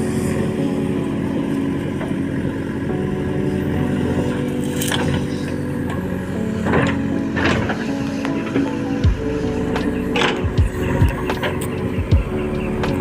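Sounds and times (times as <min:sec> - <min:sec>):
backhoe diesel engine under load: 0:00.0 - 0:13.0
backhoe digging and dumping soil: 0:00.0 - 0:13.0.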